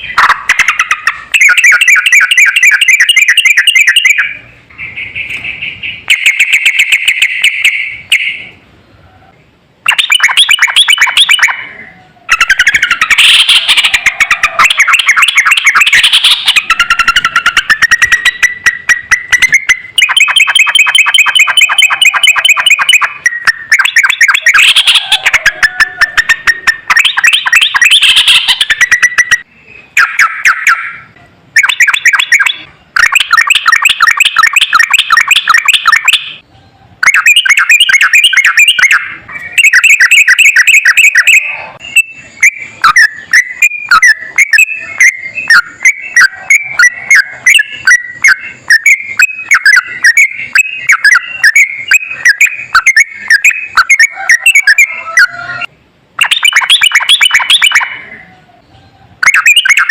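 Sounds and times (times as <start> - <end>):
bird singing fast repeated notes: 0.0 - 8.8, 9.6 - 36.4, 37.0 - 58.4, 59.1 - 59.9.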